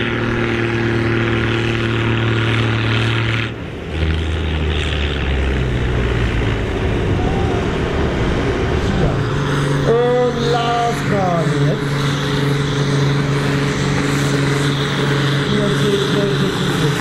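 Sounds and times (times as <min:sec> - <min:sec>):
tractor diesel engine under heavy load: 0:00.0 - 0:17.0.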